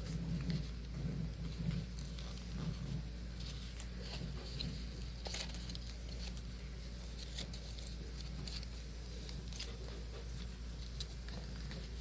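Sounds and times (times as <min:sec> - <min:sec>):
paper taps and crinkles: 0:00.0 - 0:12.0
steady low hum: 0:00.0 - 0:12.0.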